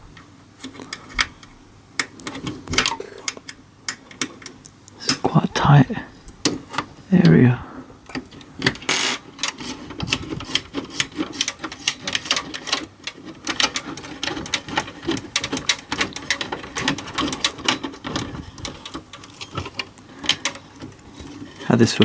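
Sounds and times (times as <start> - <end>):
cable clicking and rattling: 0.0 - 5.3, 8.1 - 22.0.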